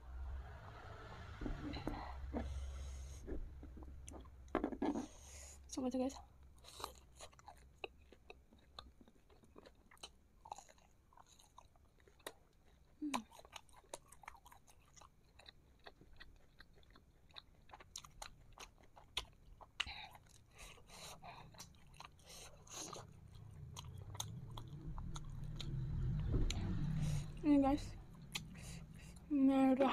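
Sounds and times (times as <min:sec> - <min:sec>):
mouth chewing food: 0:01.5 - 0:29.3.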